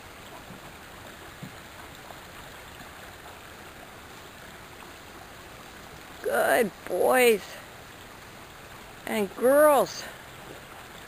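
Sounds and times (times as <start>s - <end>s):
trickle of running water: 0.0s - 11.0s.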